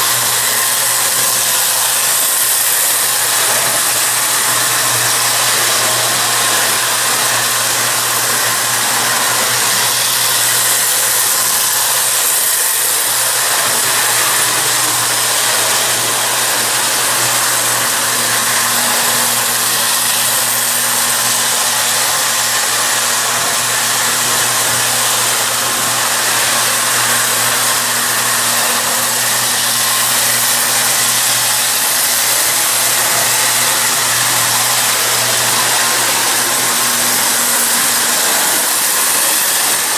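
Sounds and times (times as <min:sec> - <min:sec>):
toy train motor whirring: 0:00.0 - 0:39.9
wheels running on metal rails: 0:00.0 - 0:39.9.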